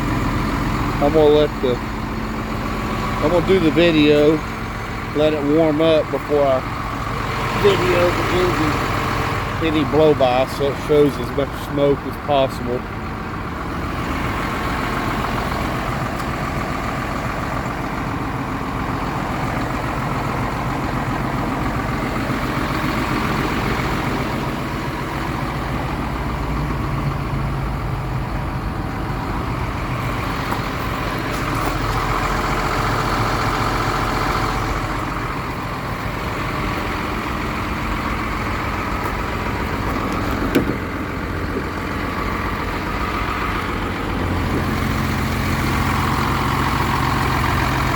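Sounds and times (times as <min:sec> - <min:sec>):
truck diesel engine idling: 0:00.0 - 0:47.9.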